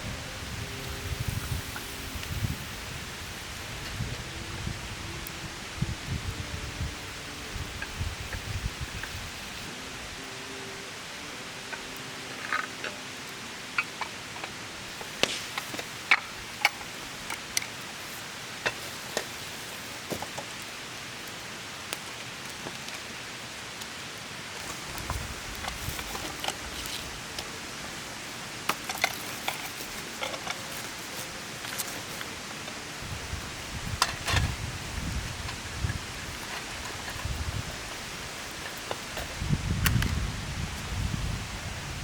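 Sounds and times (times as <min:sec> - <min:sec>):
steady wet hiss: 0:00.0 - 0:42.0.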